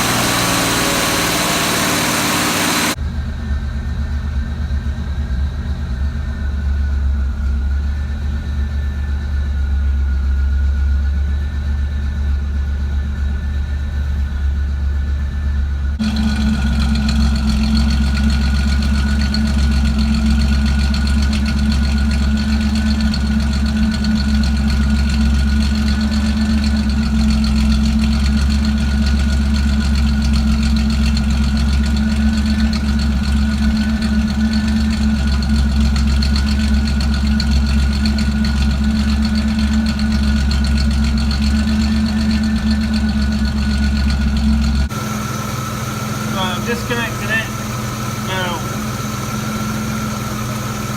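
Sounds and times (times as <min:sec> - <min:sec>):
car engine idling with misfire: 0:00.0 - 0:50.9.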